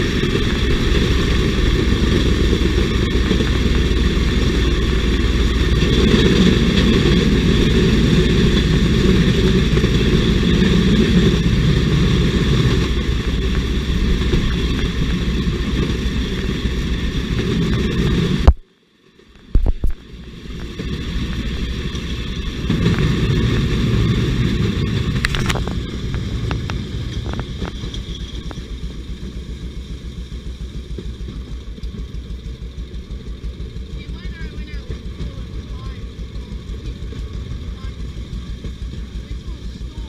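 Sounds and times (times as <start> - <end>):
rail trolley engine running: 0.0 - 40.0.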